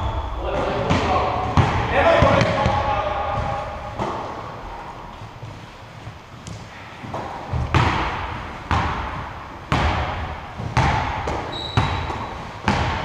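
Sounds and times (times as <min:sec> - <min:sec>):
basketball bouncing on gym floor: 0:00.0 - 0:04.3, 0:06.4 - 0:13.0.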